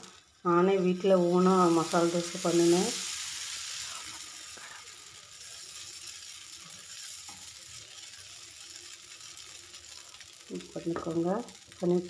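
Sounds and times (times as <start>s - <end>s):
batter sizzling: 0.0s - 12.0s.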